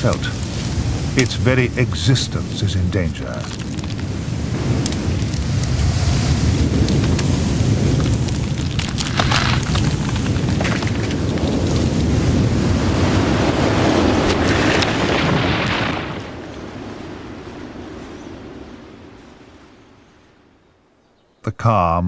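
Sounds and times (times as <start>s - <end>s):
sharp cracks: 0.0s - 18.1s
heavy rain: 0.0s - 20.5s
high wind: 0.0s - 21.6s.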